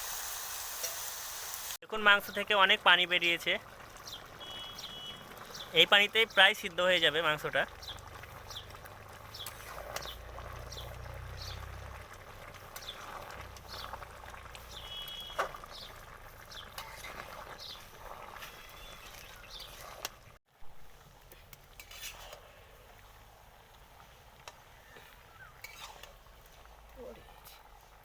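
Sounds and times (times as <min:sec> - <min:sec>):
meat simmering in a pan: 0:00.0 - 0:28.0.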